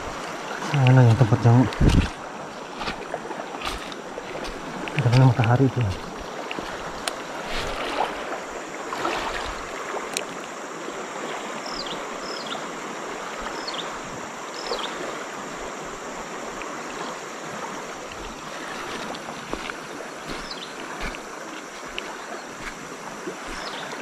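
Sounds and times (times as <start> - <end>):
river running over rapids: 0.0 - 24.0.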